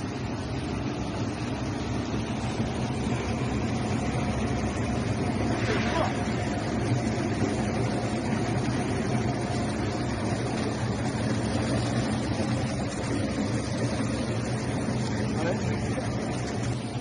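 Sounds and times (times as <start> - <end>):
peeling machine motor humming: 0.0 - 17.0.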